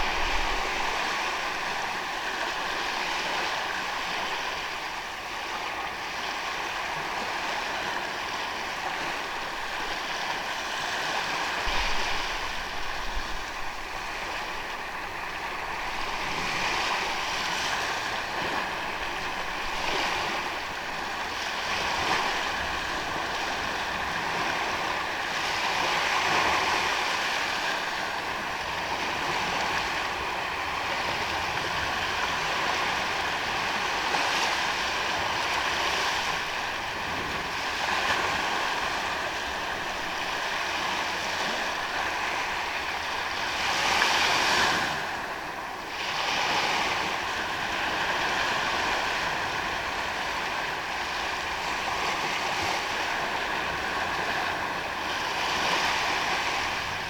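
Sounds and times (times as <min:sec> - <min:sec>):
ocean waves washing on beach: 0:00.0 - 0:57.0.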